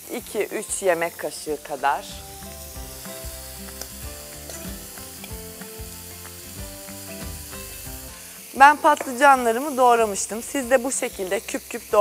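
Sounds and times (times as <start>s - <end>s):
meat sizzling in a frying pan: 0.0s - 12.0s
soft background music: 0.0s - 12.0s.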